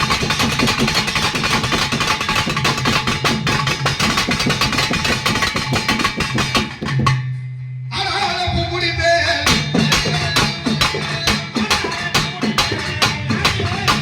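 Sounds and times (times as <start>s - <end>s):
fast drumming: 0.0s - 7.3s, 8.0s - 14.0s.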